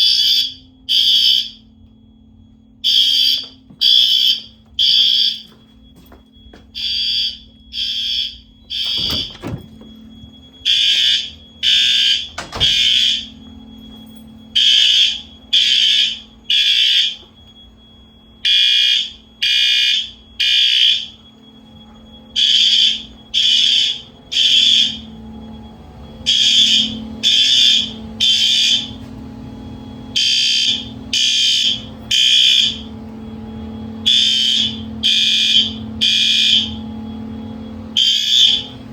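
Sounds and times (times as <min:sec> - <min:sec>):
fire alarm horn blasts: 0:00.0 - 0:38.9.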